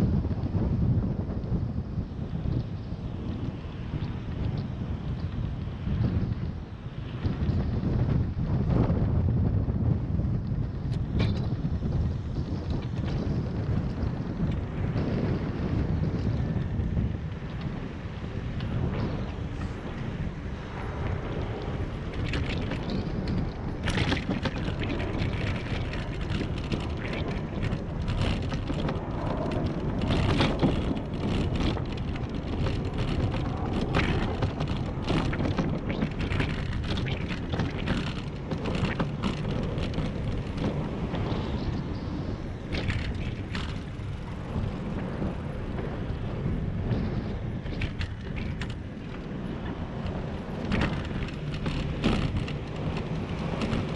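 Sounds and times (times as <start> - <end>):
bicycle rattles and knocks: 0.0 - 53.9
bicycle tyre noise: 0.0 - 53.9
wind rumble on microphone: 0.0 - 53.9.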